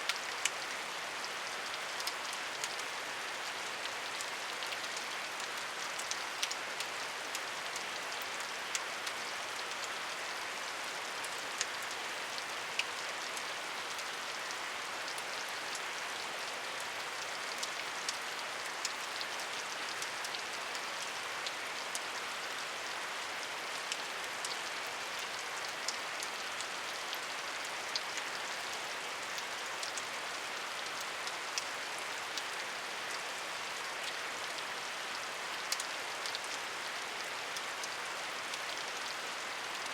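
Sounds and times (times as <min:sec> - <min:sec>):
rain hiss: 0:00.0 - 0:39.9
raindrops ticking on a surface: 0:00.0 - 0:39.9.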